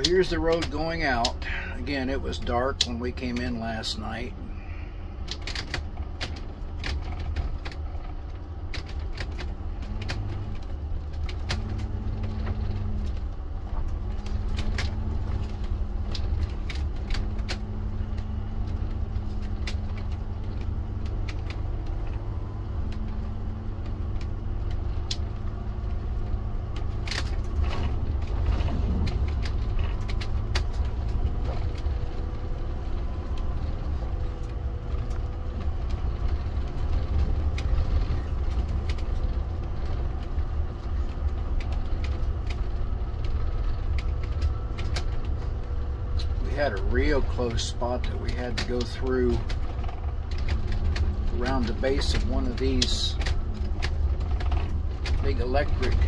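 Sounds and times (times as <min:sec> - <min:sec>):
ticks and rattles: 0:00.0 - 0:56.0
vehicle engine and tyre rumble: 0:00.0 - 0:56.0.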